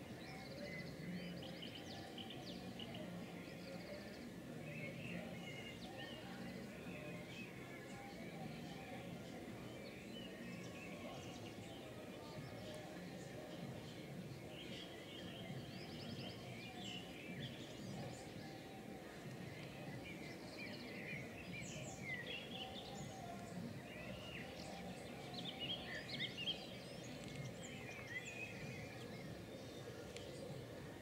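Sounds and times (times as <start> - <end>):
birds chirping and twittering: 0.0 - 31.0.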